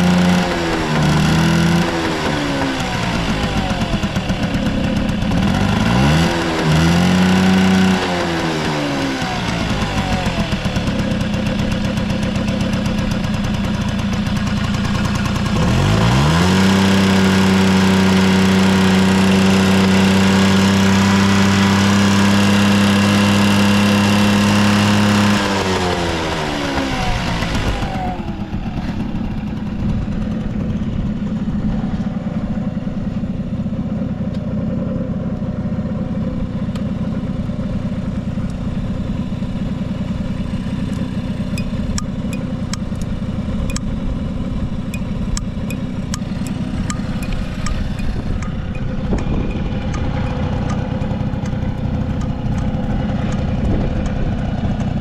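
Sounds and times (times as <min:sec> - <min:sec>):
scooter engine revving and idling: 0:00.0 - 0:55.0.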